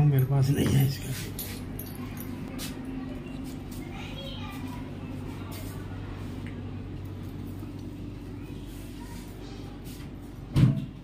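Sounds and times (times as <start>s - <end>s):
steady low hum: 0.0s - 11.0s
faint voices: 0.6s - 11.0s.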